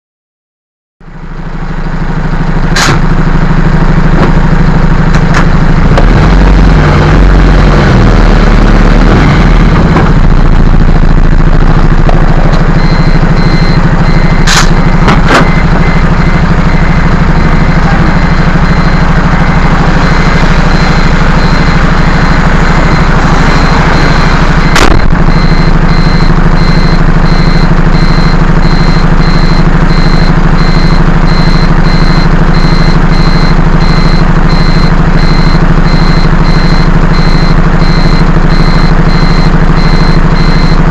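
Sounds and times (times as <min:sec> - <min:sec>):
heavy vehicle engine idling: 0:01.0 - 0:40.9
electronic warning beep: 0:02.4 - 0:40.9.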